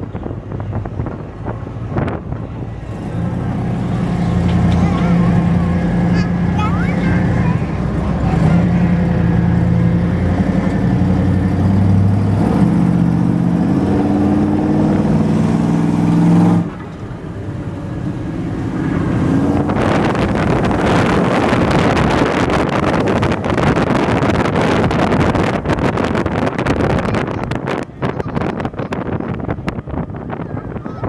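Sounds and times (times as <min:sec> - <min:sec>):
truck engine revving: 0:00.0 - 0:30.8
wind buffeting microphone: 0:00.0 - 0:31.0.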